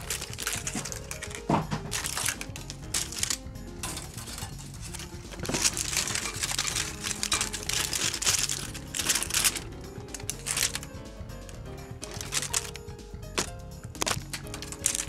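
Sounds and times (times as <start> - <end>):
background music with low notes: 0.0 - 15.0
crinkling and rustling: 0.0 - 15.0.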